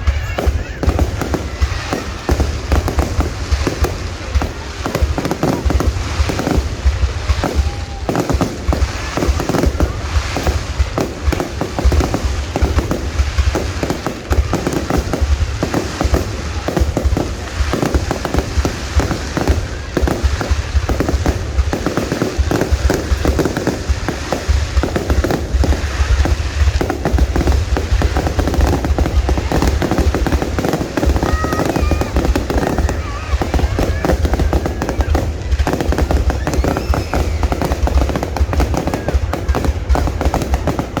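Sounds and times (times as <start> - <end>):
fireworks bangs and crackles: 0.0 - 41.0
low firework booms: 0.0 - 41.0.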